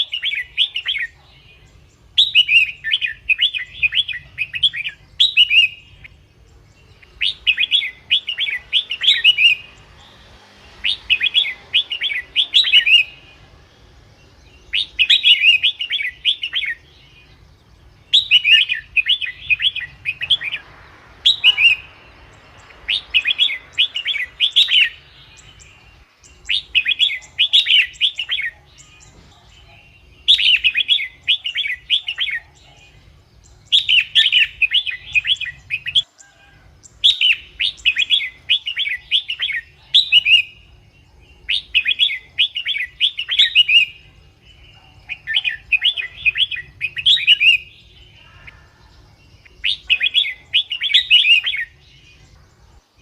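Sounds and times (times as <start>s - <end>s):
bird singing warbled phrases: 0.0s - 53.0s.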